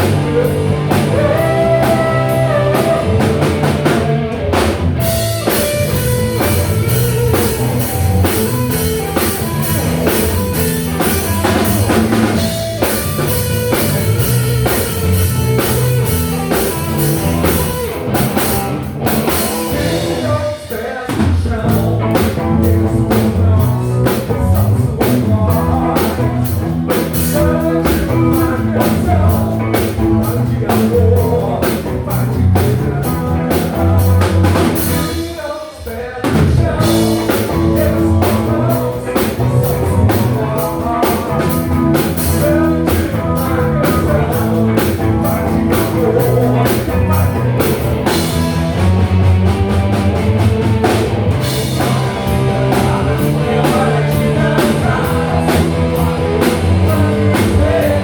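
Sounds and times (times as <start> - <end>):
drum kit beat: 0.0 - 58.0
rock band playing live: 0.0 - 58.0.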